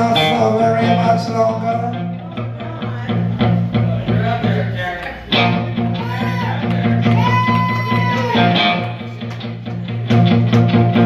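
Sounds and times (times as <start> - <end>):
bass guitar: 0.0 - 11.0
drums: 0.0 - 11.0
electric guitar: 0.0 - 11.0.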